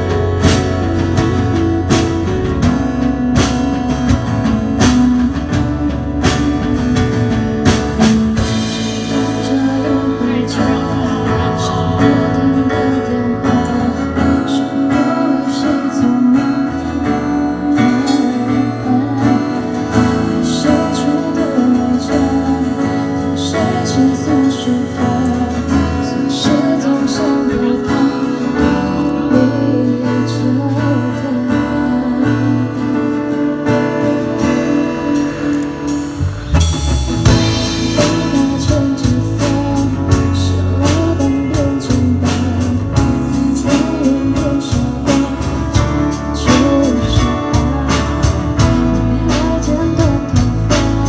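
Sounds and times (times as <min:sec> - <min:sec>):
bass line: 0:00.0 - 0:51.0
guitar: 0:00.0 - 0:51.0
live band music: 0:00.0 - 0:51.0.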